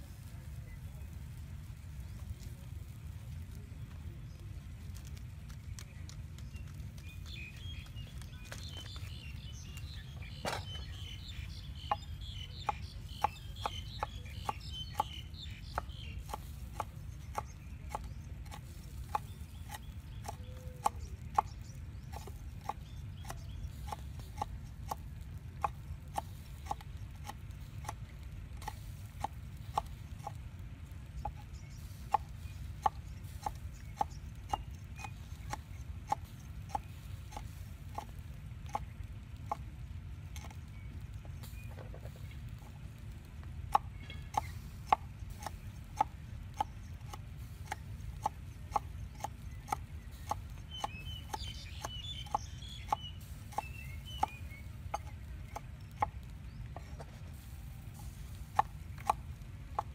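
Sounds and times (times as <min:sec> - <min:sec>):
high chirping calls: 0:05.8 - 0:42.8, 0:43.8 - 0:59.9.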